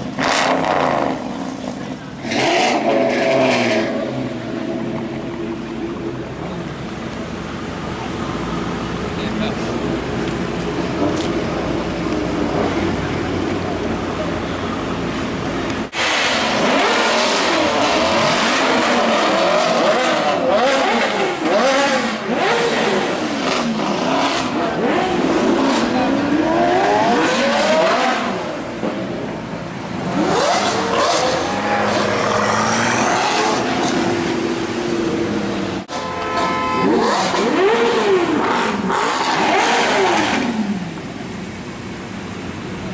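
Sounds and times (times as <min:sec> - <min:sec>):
sports car engines revving past: 0:00.0 - 0:42.8.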